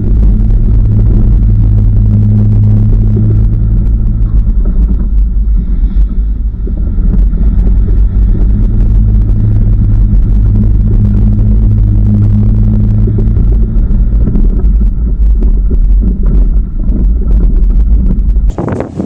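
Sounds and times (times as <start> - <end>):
engine and drivetrain rumble: 0.0 - 19.0.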